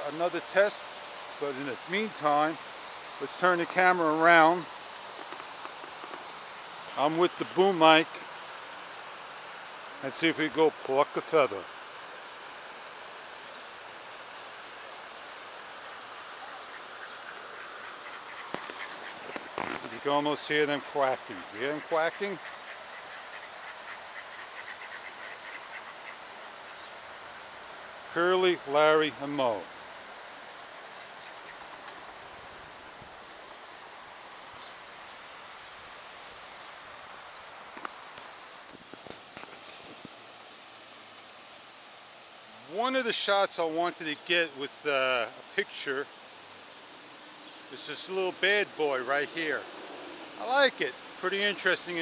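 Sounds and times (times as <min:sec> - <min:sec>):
rushing outdoor background noise: 0:00.0 - 0:52.0.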